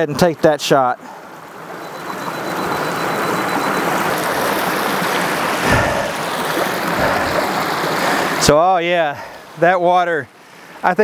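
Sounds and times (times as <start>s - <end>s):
water rushing in a cascade: 0.0s - 11.0s.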